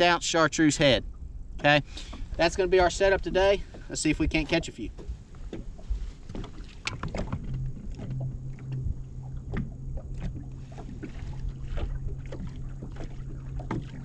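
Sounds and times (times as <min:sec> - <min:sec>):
water slapping against hull: 0:01.1 - 0:14.0.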